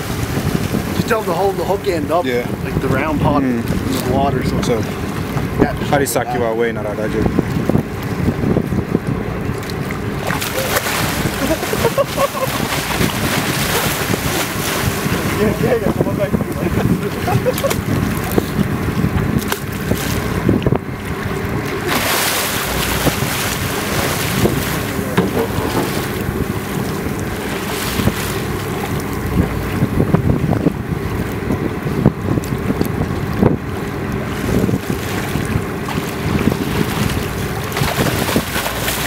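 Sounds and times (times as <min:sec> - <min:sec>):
low hum of boat: 0:00.0 - 0:39.0
sea water splashing against boat: 0:00.0 - 0:39.0
wind buffeting microphone: 0:00.0 - 0:39.0.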